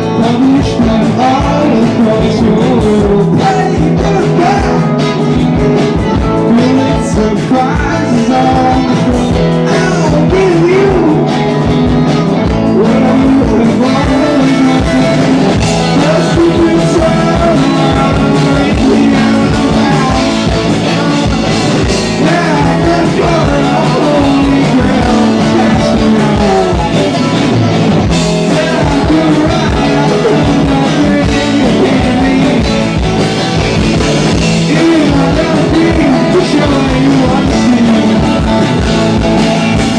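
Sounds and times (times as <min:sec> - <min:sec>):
drum beat: 0:00.0 - 0:39.9
electric guitar: 0:00.0 - 0:39.9
person singing: 0:00.0 - 0:39.9.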